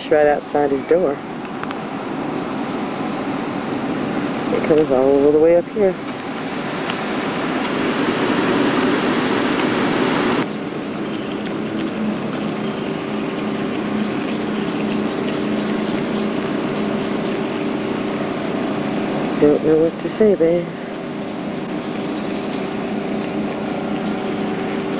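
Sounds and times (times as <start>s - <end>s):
insects chirping: 0.0s - 24.9s
low hum: 0.0s - 24.9s
loud rushing hiss: 1.2s - 24.9s.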